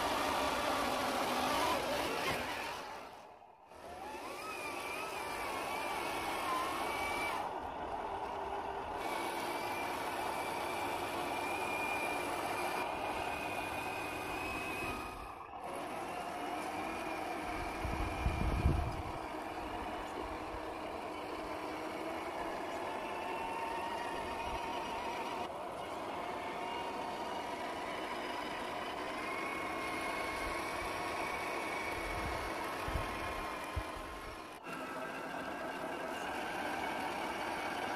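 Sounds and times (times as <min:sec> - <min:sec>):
electric motor whining: 0:00.0 - 0:37.9.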